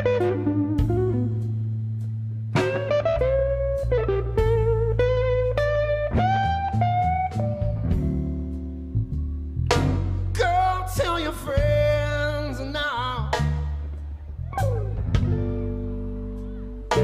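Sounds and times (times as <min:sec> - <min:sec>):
bass line: 0:00.0 - 0:17.0
blues electric guitar: 0:00.0 - 0:17.0.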